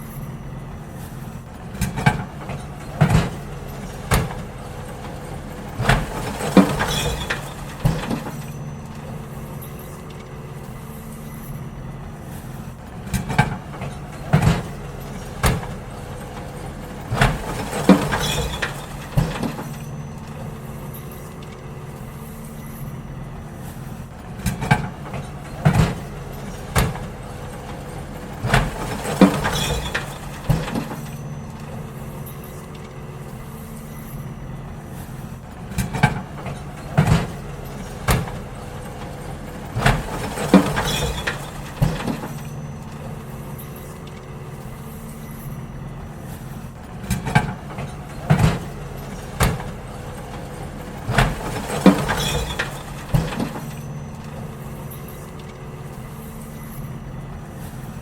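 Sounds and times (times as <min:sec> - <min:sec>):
bins and lifting gear clanking: 0:00.0 - 0:58.0
diesel engine running: 0:00.0 - 0:58.0.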